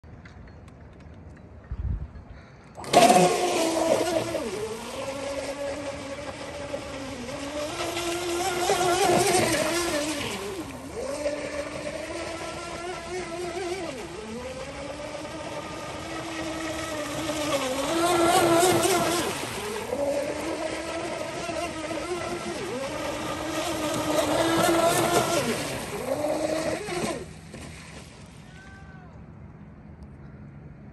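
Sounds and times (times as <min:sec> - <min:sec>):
model speedboat motor: 0:00.1 - 0:30.9.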